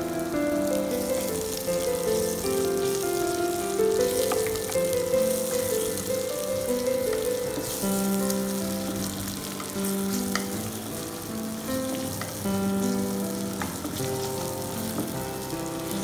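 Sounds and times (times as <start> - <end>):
background music with held notes: 0.0 - 16.0
onions sizzling in oil: 0.0 - 16.0.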